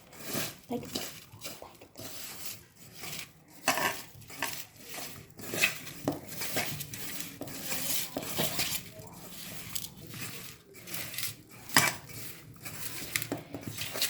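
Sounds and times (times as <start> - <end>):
utensils clinking against dishes: 0.0 - 14.0.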